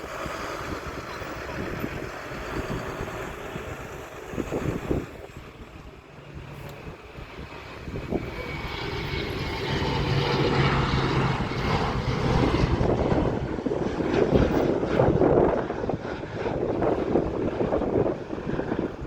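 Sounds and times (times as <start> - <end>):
aircraft engines approaching: 0.0 - 19.0.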